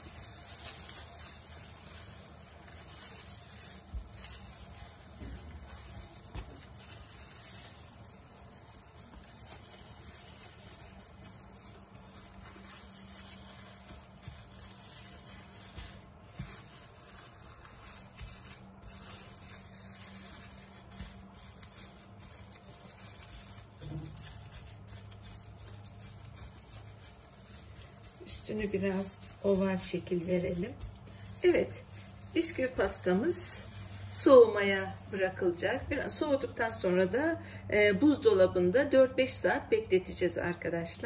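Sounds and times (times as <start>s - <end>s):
plastic bag crinkling: 0.0s - 37.2s.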